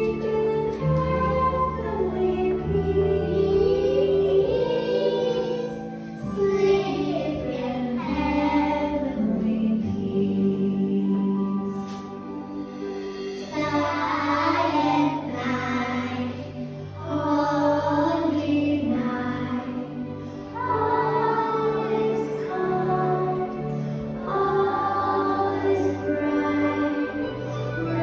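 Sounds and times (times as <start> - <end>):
children singing a carol: 0.0 - 12.1, 13.3 - 28.0.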